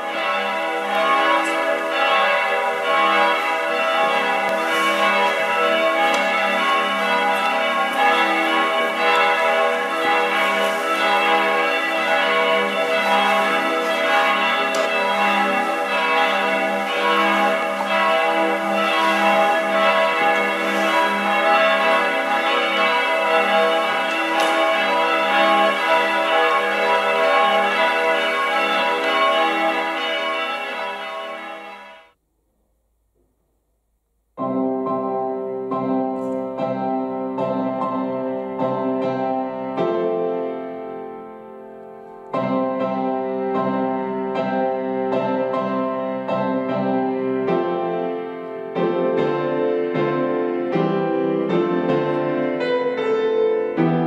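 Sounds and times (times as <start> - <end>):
church bells pealing: 0.0 - 32.2, 34.4 - 54.0.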